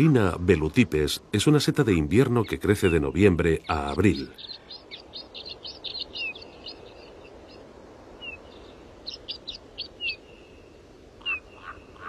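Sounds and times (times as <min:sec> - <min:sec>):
faint background hiss: 0:00.0 - 0:12.0
songbird chirping: 0:00.0 - 0:12.0.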